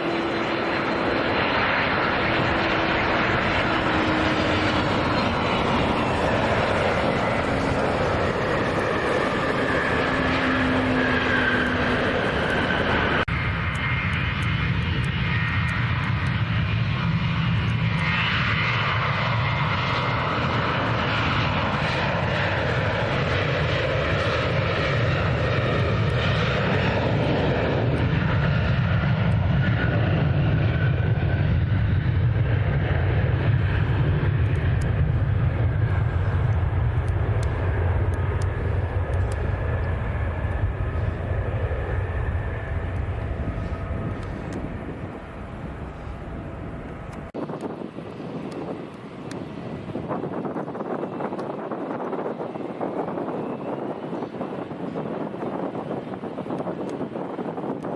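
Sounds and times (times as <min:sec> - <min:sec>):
airliner engines running: 0:00.0 - 0:57.9.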